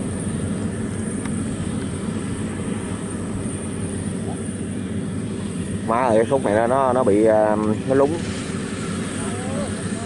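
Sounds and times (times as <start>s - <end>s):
combine harvester engine drone: 0.0s - 10.0s.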